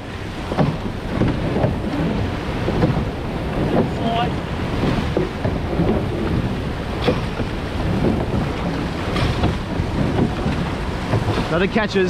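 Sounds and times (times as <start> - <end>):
water rushing along boat hull: 0.0 - 12.0
wind buffeting microphone: 0.0 - 12.0.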